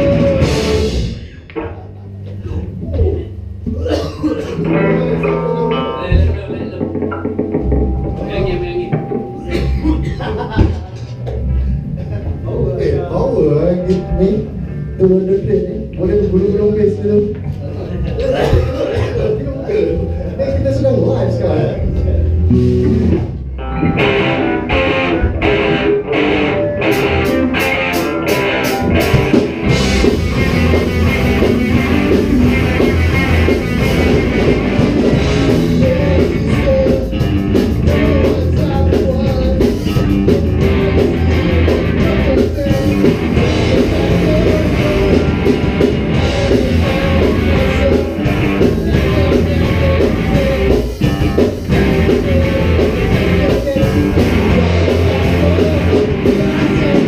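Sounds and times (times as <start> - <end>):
rock band playing live: 0.0 - 57.0.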